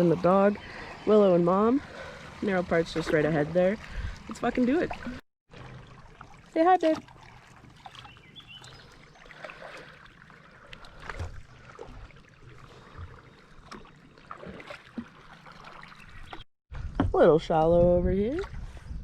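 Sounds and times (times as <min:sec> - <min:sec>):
paddle splashes: 0:00.0 - 0:16.5.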